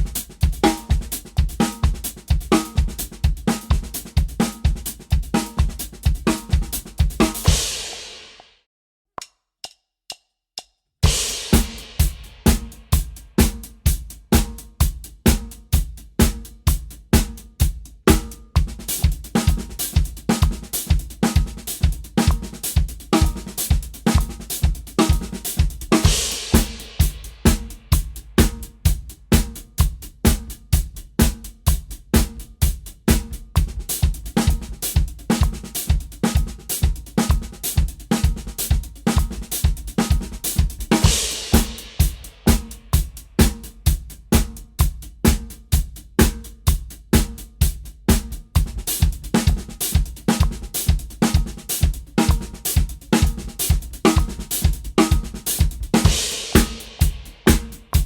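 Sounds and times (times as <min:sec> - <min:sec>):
drum kit paradiddles: 0:00.0 - 0:08.5, 0:11.0 - 0:58.0.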